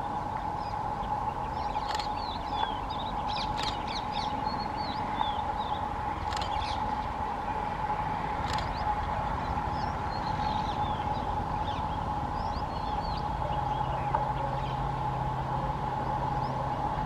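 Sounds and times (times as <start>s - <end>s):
small birds chirping: 0.0s - 7.2s, 8.4s - 17.0s
diesel locomotive rumbling: 0.0s - 17.0s
steady droning tone: 0.0s - 17.0s.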